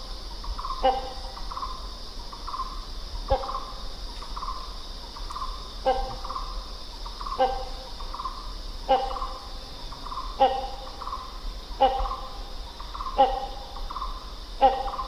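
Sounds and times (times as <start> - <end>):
hornbill calling: 0.0 - 15.0
steady high hum: 0.0 - 15.0.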